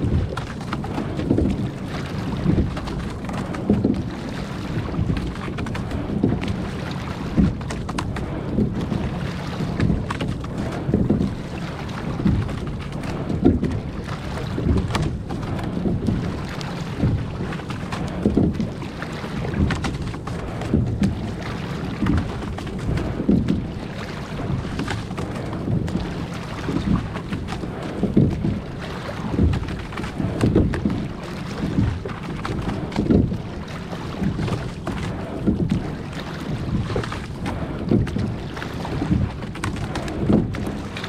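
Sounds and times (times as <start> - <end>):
oar strokes: 0.0 - 41.0
water washing along hull: 0.0 - 41.0.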